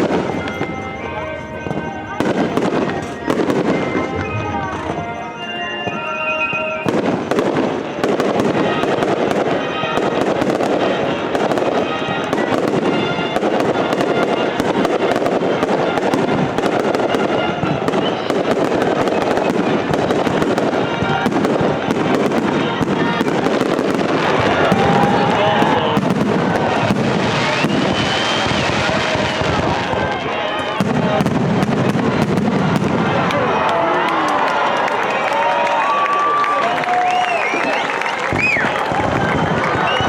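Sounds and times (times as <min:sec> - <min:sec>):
fireworks crackling and popping: 0:00.0 - 0:40.0.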